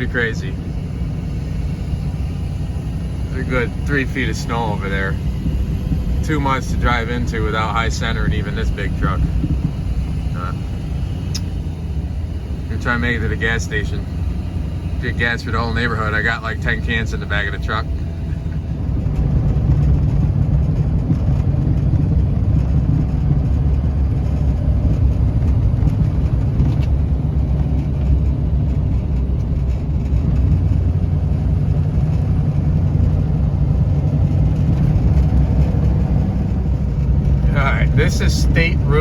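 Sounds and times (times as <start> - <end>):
pickup engine and road rumble: 0.0 - 39.0.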